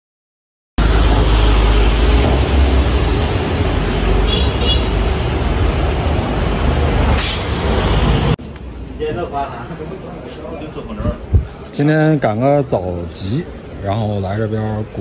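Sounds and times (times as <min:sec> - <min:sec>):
traffic rumble: 0:00.8 - 0:15.0.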